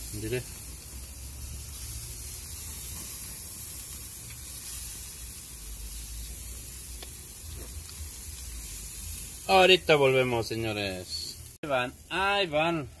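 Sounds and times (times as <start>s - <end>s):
skewers sizzling on a grill: 0.0s - 13.0s.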